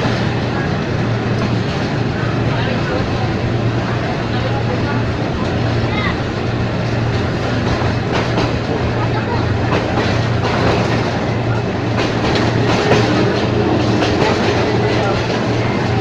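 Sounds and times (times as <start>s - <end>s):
train rumbling hum: 0.0s - 16.0s
wheels clacking over rail joints: 0.0s - 16.0s.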